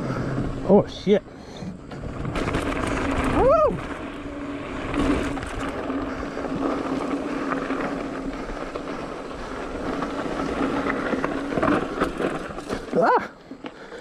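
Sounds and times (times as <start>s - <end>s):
bike rattling and clicking: 0.0s - 14.0s
tyres crunching over stones: 1.8s - 14.0s.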